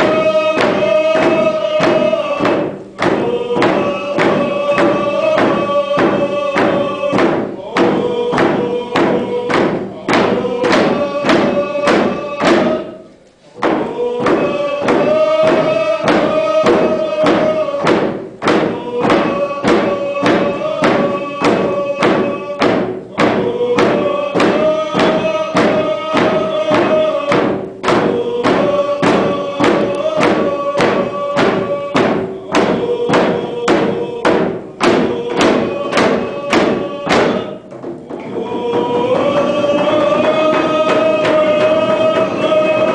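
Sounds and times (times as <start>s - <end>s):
hand drums beating: 0.0s - 13.0s, 13.6s - 42.9s
group of voices singing: 0.0s - 42.9s.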